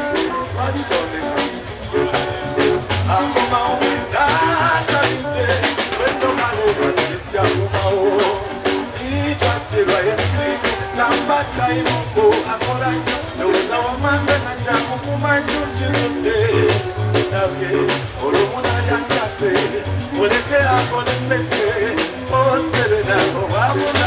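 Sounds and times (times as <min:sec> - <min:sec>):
live band playing: 0:00.0 - 0:24.0
man singing: 0:00.0 - 0:24.0.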